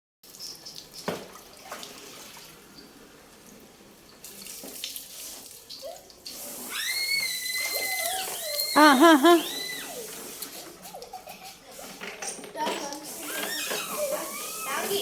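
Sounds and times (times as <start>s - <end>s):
water running from a tap: 0.2s - 8.8s, 9.5s - 11.9s, 12.8s - 15.0s.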